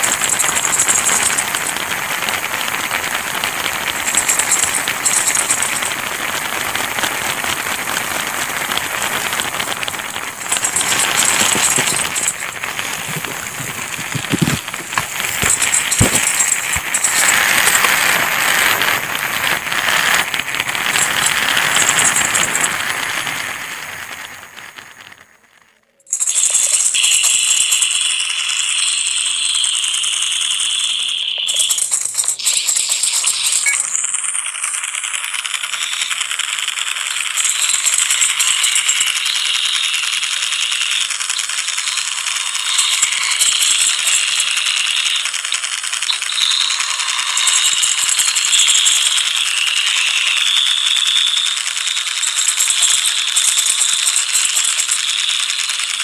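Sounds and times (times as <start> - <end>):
loud rattling hiss: 0.0 - 25.2, 34.8 - 56.0.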